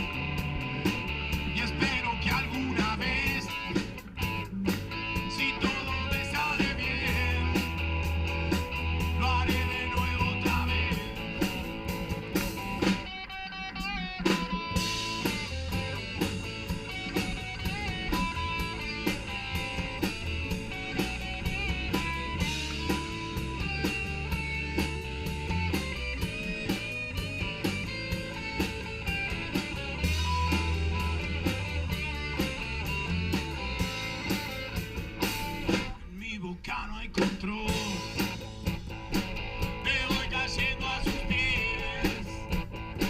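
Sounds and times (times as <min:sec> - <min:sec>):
bass guitar: 0:00.0 - 0:43.0
drum kit beat: 0:00.0 - 0:43.0
electric guitar lead lines: 0:00.0 - 0:43.0.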